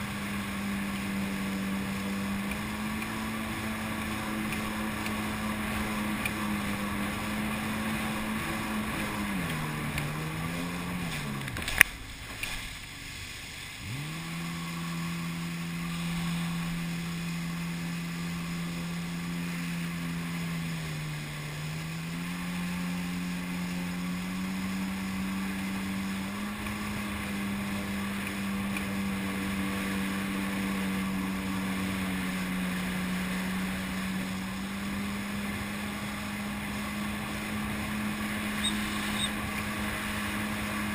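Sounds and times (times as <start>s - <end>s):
jet ski engine running: 0.0s - 40.9s.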